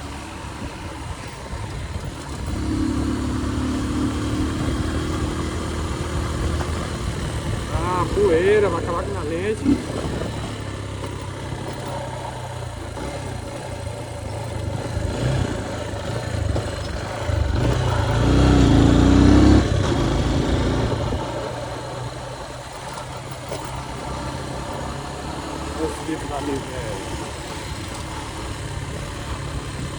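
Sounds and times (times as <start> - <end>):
motorcycle engine running: 0.0 - 29.9
wind and road noise: 0.0 - 29.9.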